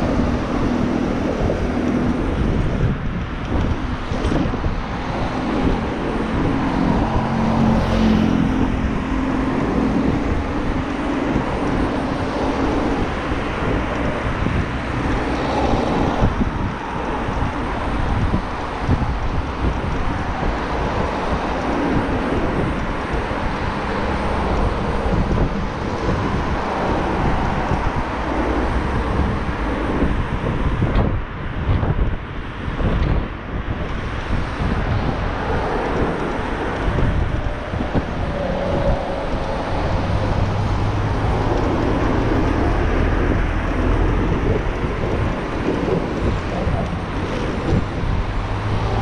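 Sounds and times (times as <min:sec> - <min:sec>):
cars driving alongside: 0:00.0 - 0:49.0
wind and road noise: 0:00.0 - 0:49.0.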